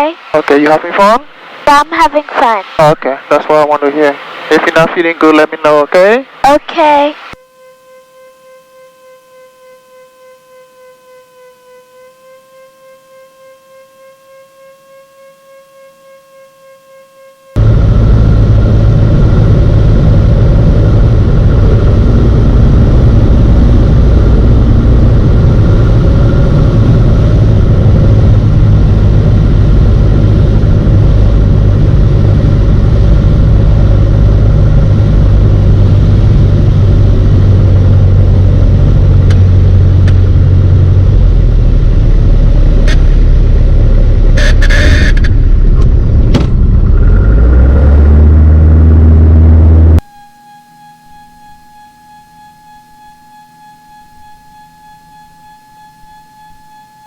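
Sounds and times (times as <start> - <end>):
airplane engine and propeller drone: 0.0 - 16.4, 17.5 - 57.0.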